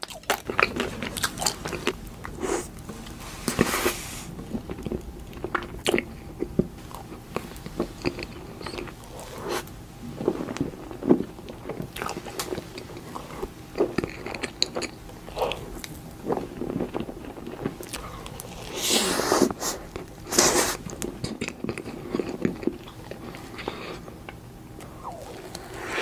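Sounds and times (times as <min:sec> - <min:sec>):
wet chewing: 0:00.0 - 0:02.9, 0:04.4 - 0:26.0.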